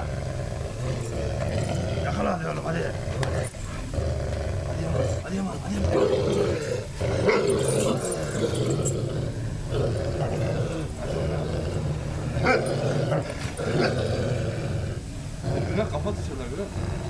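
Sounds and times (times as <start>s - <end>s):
dog growling: 0.0s - 17.0s.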